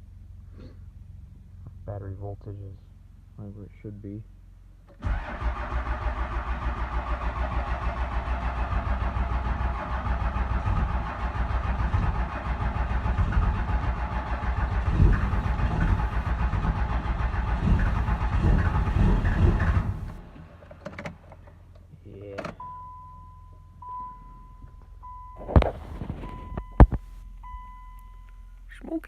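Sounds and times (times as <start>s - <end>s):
diesel engine cranking on starter: 4.8s - 28.8s.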